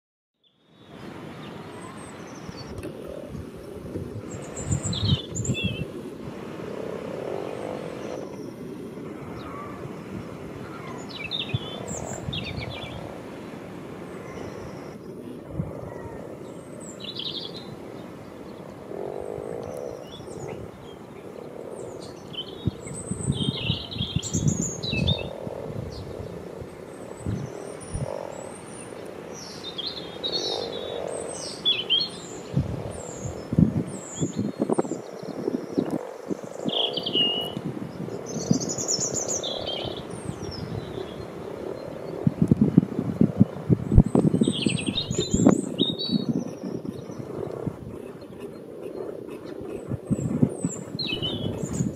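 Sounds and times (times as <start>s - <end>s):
wind buffeting microphone: 0.9s - 51.9s
frogs croaking: 2.8s - 51.9s
small birds chirping: 9.3s - 13.1s, 14.1s - 51.9s.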